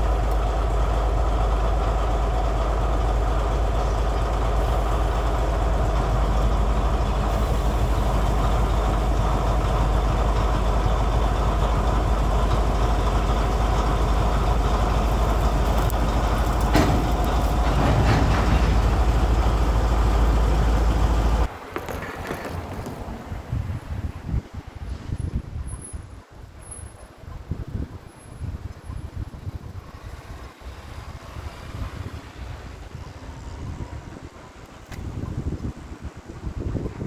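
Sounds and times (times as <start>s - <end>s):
diesel locomotive engine rumbling: 0.0s - 37.0s
wind: 0.0s - 37.0s.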